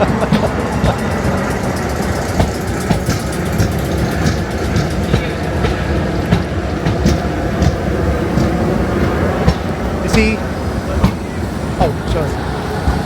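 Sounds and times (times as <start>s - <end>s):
electric train rumble: 0.0s - 13.0s
wheels clicking on rails: 0.0s - 13.0s.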